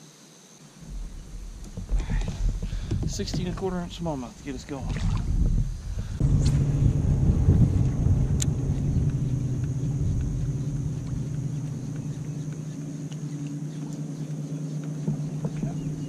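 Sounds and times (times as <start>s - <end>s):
motor humming and rumbling: 0.8s - 16.0s.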